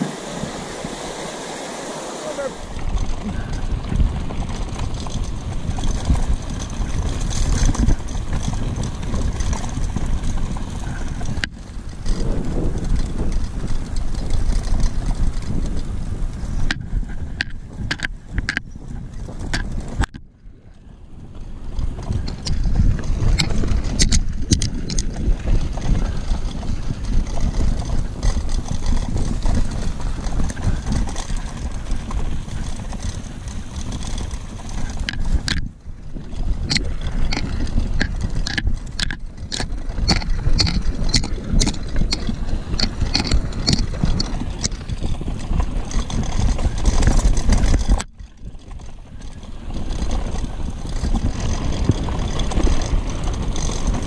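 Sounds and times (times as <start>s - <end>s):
bicycle rattling: 0.0s - 54.0s
gravel ticking under tyres: 0.0s - 54.0s
wind rumble on microphone: 2.2s - 54.0s.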